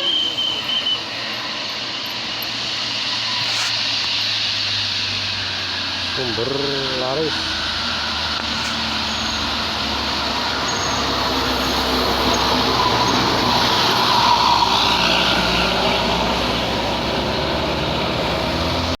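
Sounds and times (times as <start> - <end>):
bus diesel engine labouring uphill: 0.0 - 19.0
tyre and road noise: 0.0 - 19.0.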